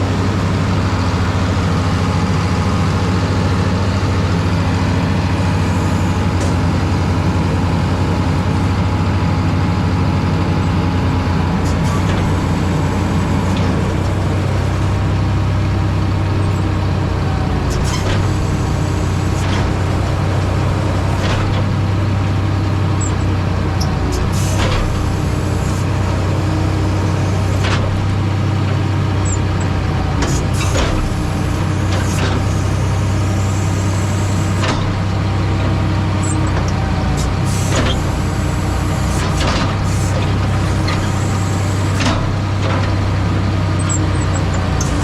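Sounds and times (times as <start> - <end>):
diesel machinery droning: 0.0 - 45.0.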